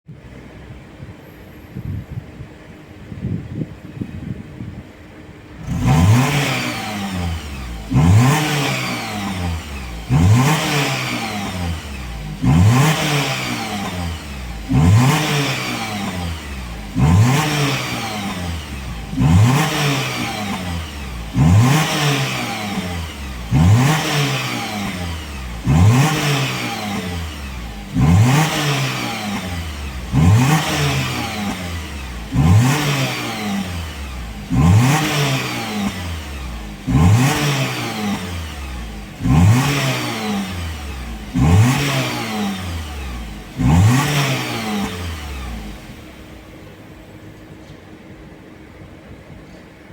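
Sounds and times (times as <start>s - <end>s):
car engine revving: 5.6s - 47.4s.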